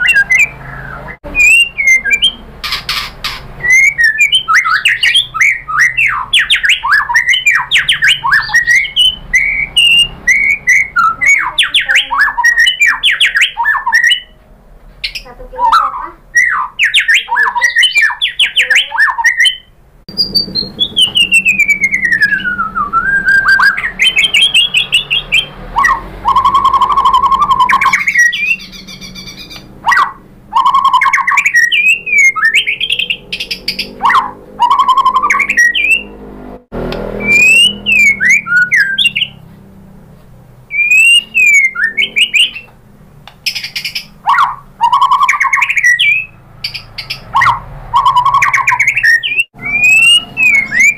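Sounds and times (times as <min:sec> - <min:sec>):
songbird singing: 0:00.0 - 0:40.1, 0:40.7 - 0:50.9.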